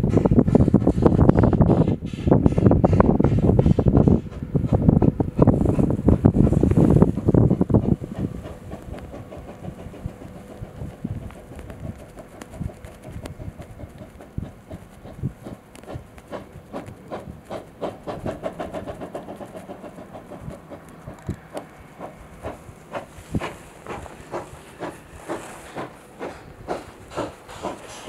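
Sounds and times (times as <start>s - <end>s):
hiss of steam: 0.0s - 4.9s, 5.5s - 28.0s
steam locomotive exhaust beats: 0.0s - 28.0s
wind buffeting microphone: 0.0s - 28.0s.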